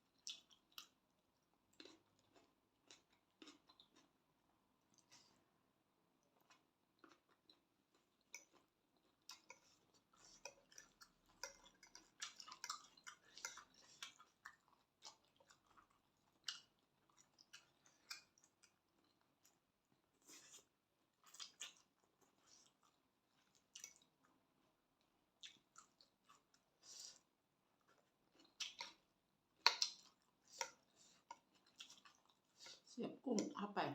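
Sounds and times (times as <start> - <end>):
person chewing food: 0.0 - 33.5.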